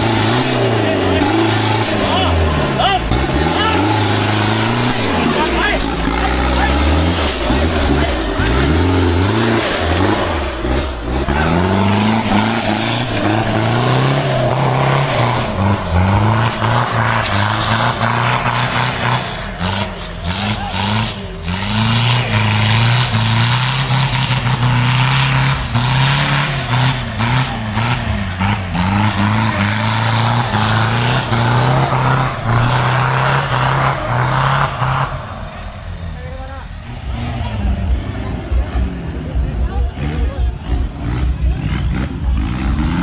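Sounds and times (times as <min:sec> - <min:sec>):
diesel engine revving: 0:00.0 - 0:43.0.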